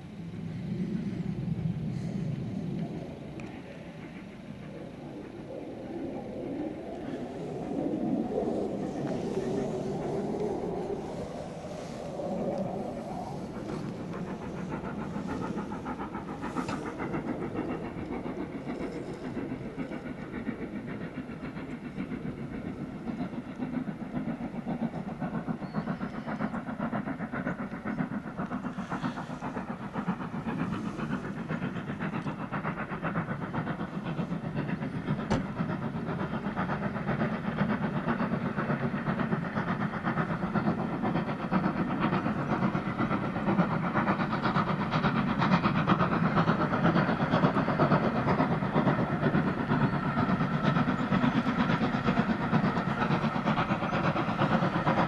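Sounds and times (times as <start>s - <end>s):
steam locomotive exhaust beats: 0.0s - 55.0s
train running noise: 0.0s - 55.0s.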